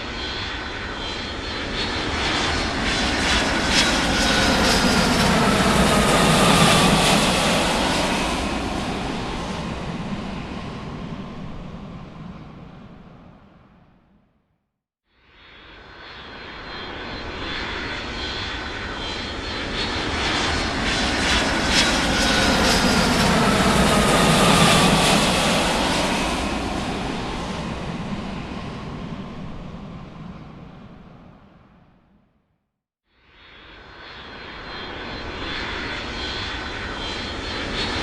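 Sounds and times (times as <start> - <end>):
large aircraft flying by: 0.0 - 14.2, 15.4 - 32.2, 33.4 - 38.0.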